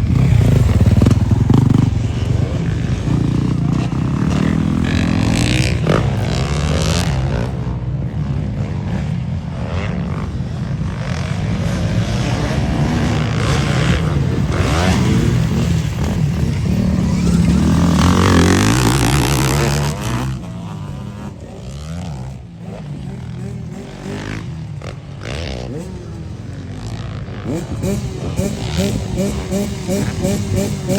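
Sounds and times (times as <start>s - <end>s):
dirt bike engines revving: 0.0s - 30.9s.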